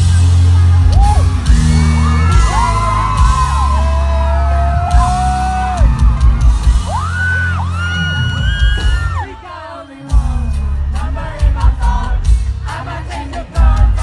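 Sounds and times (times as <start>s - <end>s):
music with heavy bass beat: 0.0s - 9.4s, 10.1s - 14.0s
crowd yelling and whooping: 0.0s - 11.5s.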